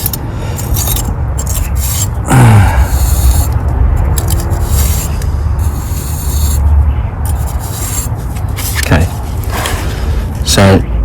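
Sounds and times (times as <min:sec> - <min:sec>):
trowel scraping mortar: 0:00.0 - 0:06.7, 0:07.3 - 0:10.2
steady low hum: 0:00.0 - 0:11.0.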